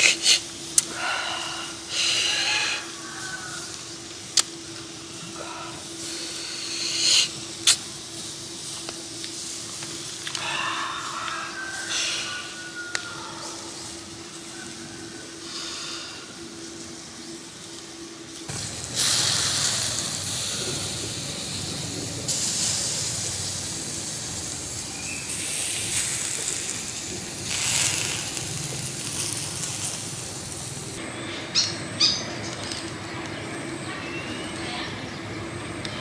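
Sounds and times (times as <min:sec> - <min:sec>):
meat sizzling over charcoal: 0:00.0 - 0:31.0.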